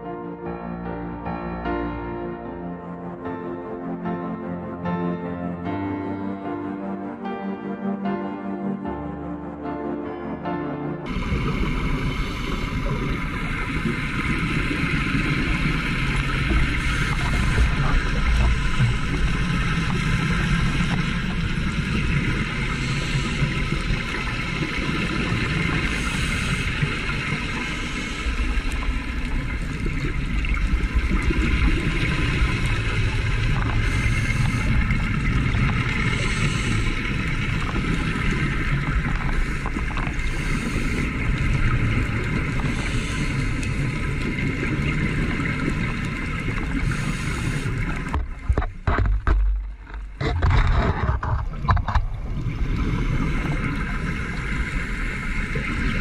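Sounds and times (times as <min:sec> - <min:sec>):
muffled underwater water rushing: 0:11.0 - 0:56.0.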